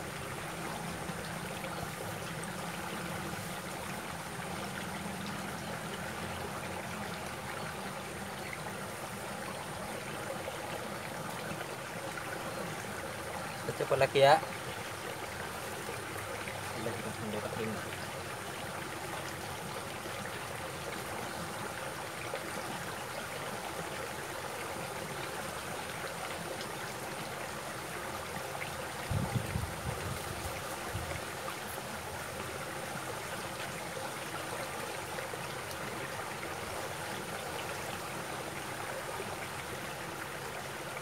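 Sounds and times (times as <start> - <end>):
stream rushing over stones: 0.0 - 41.0.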